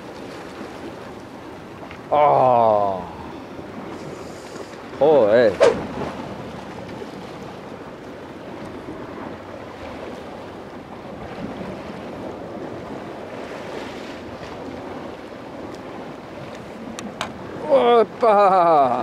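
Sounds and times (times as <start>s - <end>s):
sea water washing against rocks: 0.0s - 19.0s
wind on the microphone: 0.0s - 19.0s.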